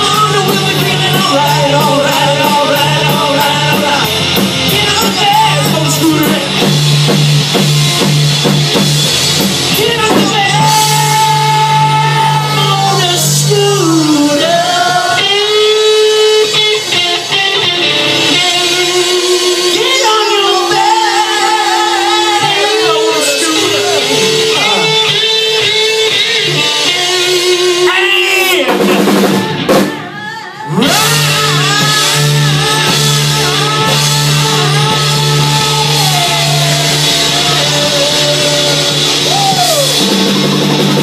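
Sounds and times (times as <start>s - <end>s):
electric guitar bending notes: 0.0s - 41.0s
rock music: 0.0s - 41.0s.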